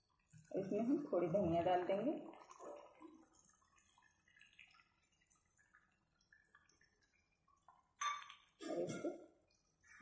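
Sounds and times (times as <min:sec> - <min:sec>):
gravy simmering pops: 0:00.0 - 0:10.0.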